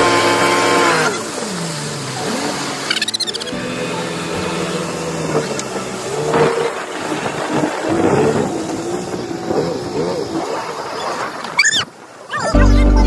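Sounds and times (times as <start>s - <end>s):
boat engine running: 0.0s - 11.6s
water rushing past hull: 0.0s - 12.6s.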